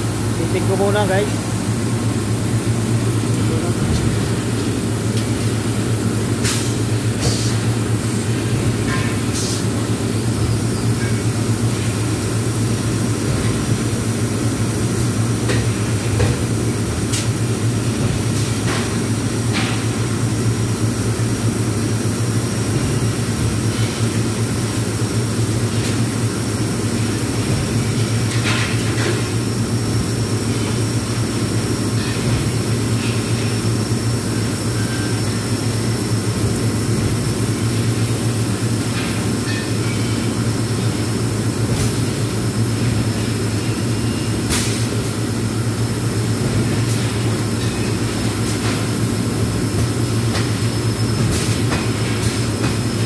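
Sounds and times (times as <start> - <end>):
shop machinery drone: 0.0 - 53.0.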